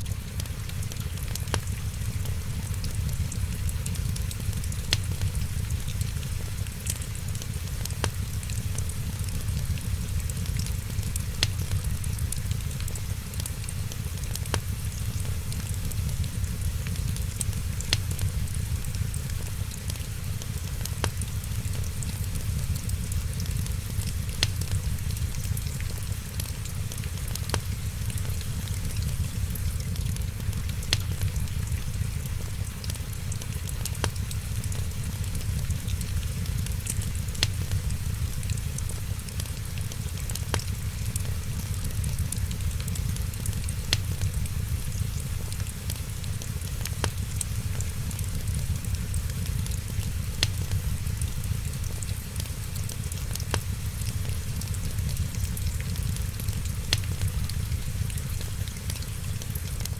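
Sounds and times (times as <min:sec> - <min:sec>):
faint rain pattering: 0:00.0 - 0:59.9
wood fire crackling: 0:00.0 - 0:59.9
sharp fire pops: 0:00.1 - 0:59.9.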